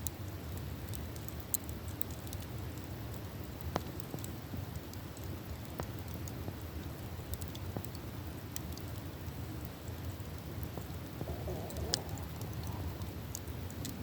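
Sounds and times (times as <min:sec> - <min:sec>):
burning wood crackles and pops: 0:00.0 - 0:14.0
campfire low rumble: 0:00.0 - 0:14.0.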